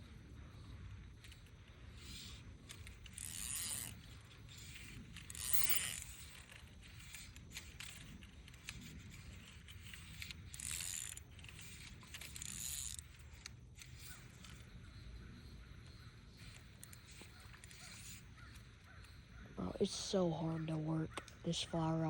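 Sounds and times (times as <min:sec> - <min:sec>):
fly reel ratcheting: 0:00.0 - 0:20.2.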